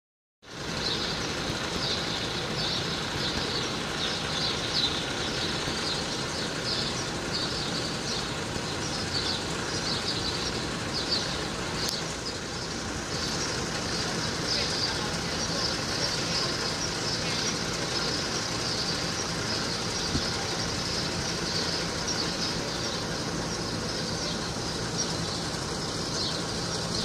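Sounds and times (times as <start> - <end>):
low street rumble: 0.4 - 27.0.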